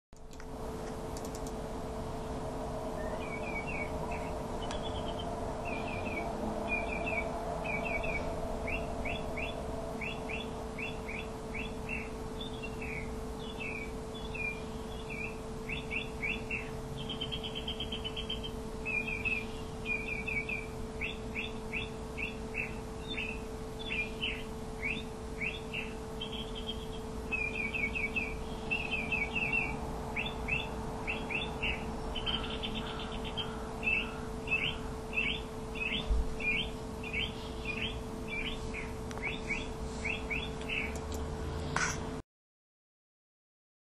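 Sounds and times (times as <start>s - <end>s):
steady low hum: 0.2s - 42.2s
small birds chirping: 3.0s - 42.1s.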